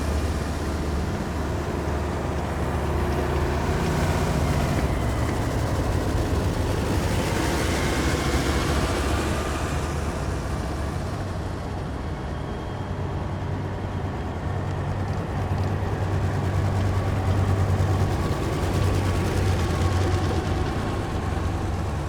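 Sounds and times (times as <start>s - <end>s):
heavy vehicles engine rumble: 0.0s - 22.0s.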